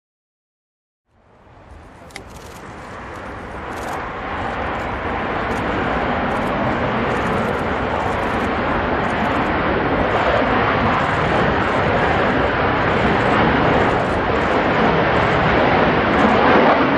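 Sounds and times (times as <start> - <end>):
jet engine roar: 1.1 - 16.9.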